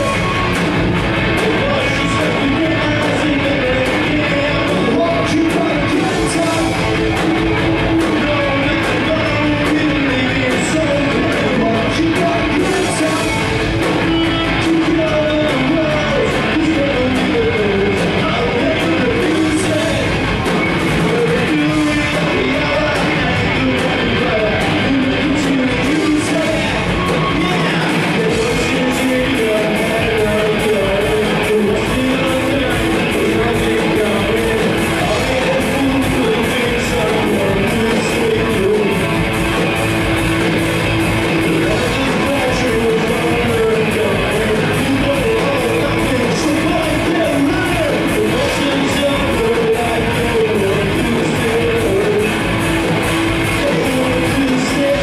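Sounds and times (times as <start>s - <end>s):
bass guitar: 0.0s - 55.0s
drums: 0.0s - 55.0s
electric guitars: 0.0s - 55.0s.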